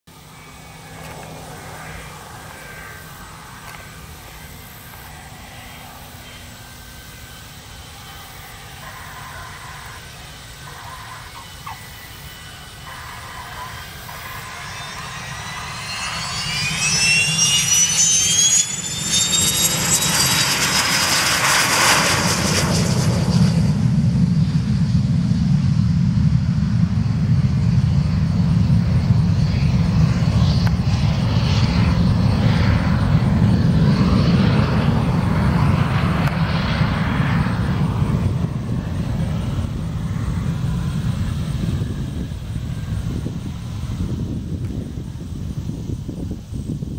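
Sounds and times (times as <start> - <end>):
jet deep rumble: 0.1 - 46.9
jet engine high whine: 0.1 - 46.9.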